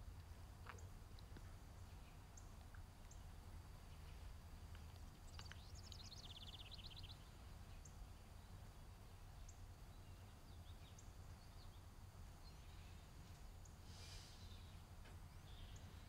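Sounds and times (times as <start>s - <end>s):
faint birds chirping: 0.0s - 16.0s
low room hum: 0.0s - 16.0s.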